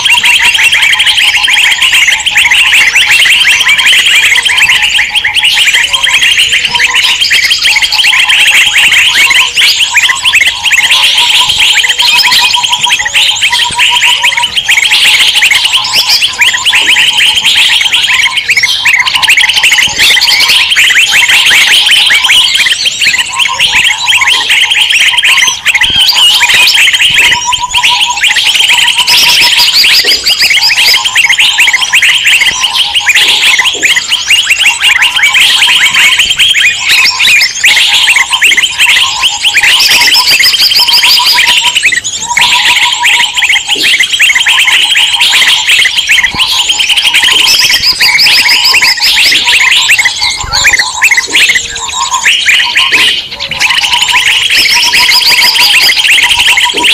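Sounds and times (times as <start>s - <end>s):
low pulsing bird call: 0.0s - 56.9s
small birds chirping: 0.0s - 56.9s.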